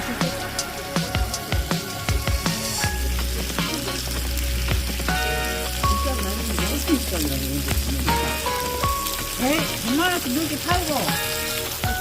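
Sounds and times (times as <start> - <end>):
pork belly sizzling on a grill: 0.0 - 12.0.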